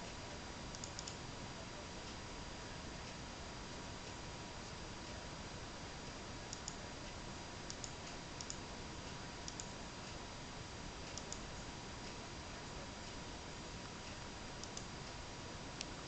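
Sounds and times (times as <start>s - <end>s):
steady hiss with thin whine: 0.0s - 16.0s.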